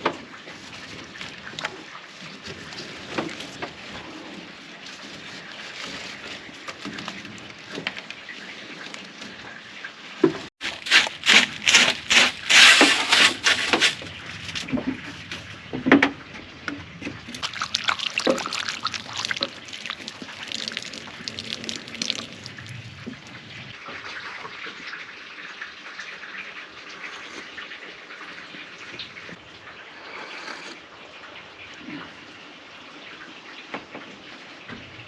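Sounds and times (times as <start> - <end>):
water splashing and trickling: 0.0 - 35.0.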